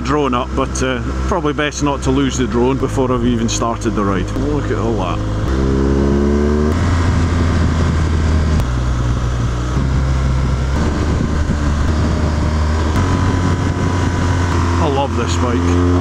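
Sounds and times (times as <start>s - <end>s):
motorcycle engine running: 0.0s - 16.0s
wind rushing over microphone: 2.4s - 16.0s.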